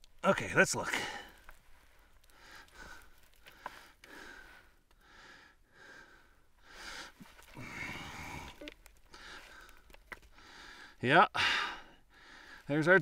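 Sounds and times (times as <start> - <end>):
man breathing quickly: 1.0 - 12.7.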